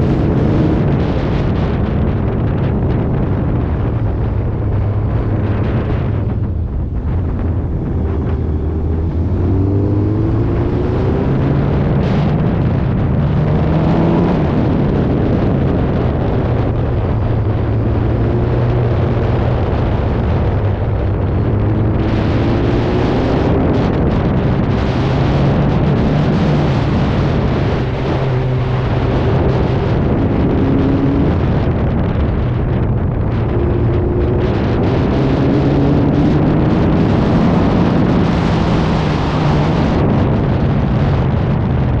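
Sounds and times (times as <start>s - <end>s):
wind buffeting microphone: 0.0s - 42.0s
engine revving under load: 7.0s - 41.5s.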